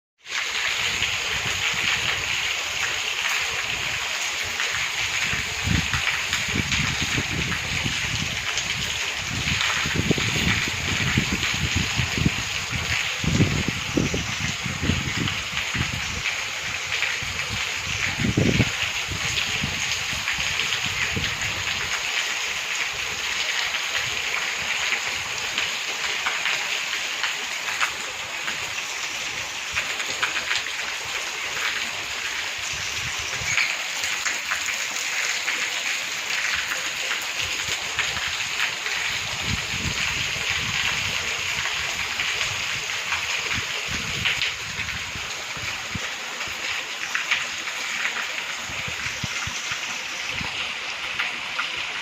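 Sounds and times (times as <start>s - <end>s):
heavy rain: 0.2s - 52.0s.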